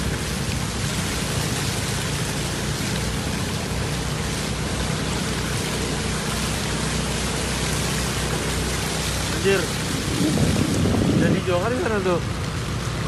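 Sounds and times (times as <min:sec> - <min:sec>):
floodwater rushing and splashing: 0:00.0 - 0:13.0
low engine hum: 0:00.0 - 0:13.0.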